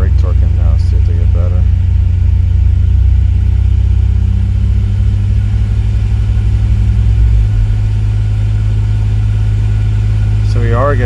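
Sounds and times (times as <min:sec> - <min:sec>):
car engine running at raised revs: 0:00.0 - 0:11.0.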